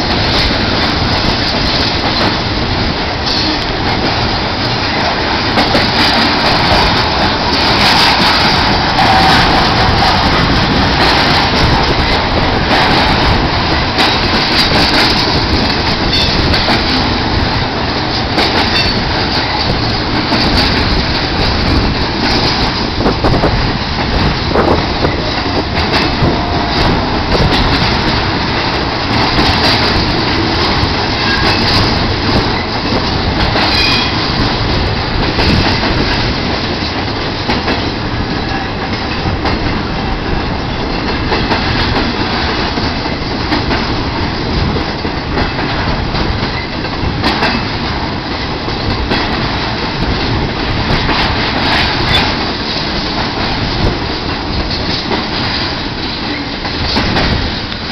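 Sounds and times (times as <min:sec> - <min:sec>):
train wheels rumbling on rail: 0:00.0 - 0:57.9
wheels clacking on rail joints: 0:00.0 - 0:57.9.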